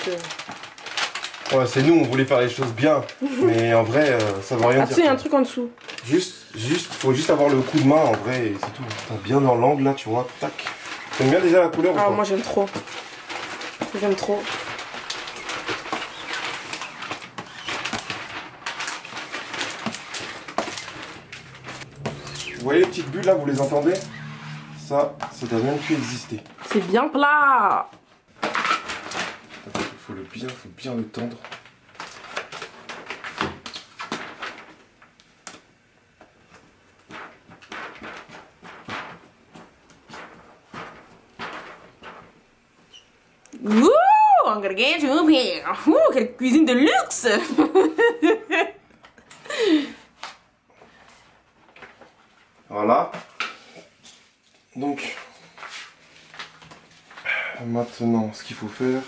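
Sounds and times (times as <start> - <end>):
vinyl film crackling under squeegee: 0.0 - 45.7, 49.0 - 59.0.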